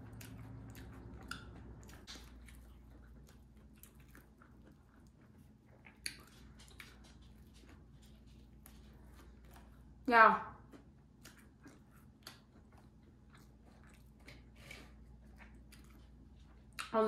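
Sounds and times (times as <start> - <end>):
person chewing: 0.0 - 10.0, 10.6 - 17.0.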